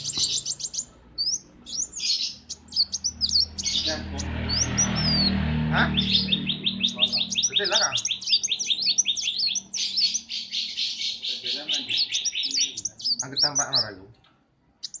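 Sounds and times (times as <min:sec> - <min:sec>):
bird chattering song: 0:00.0 - 0:15.0.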